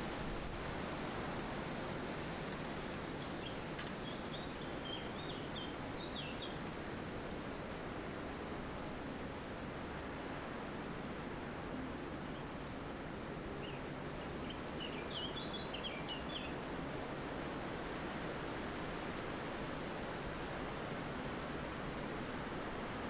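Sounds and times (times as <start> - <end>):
wind through trees: 0.0 - 23.0.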